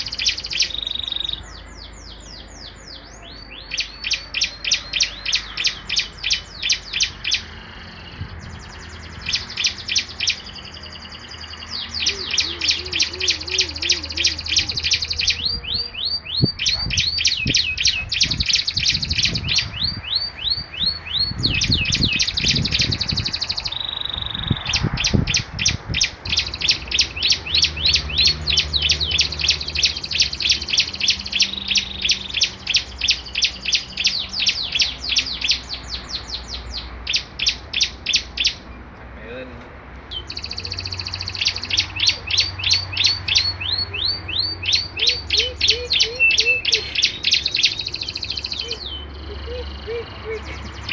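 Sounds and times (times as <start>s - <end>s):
small songbirds singing: 0.0s - 50.9s.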